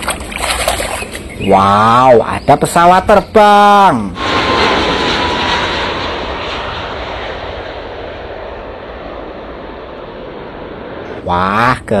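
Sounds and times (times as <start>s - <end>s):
airplane engine rushing: 0.0s - 12.0s.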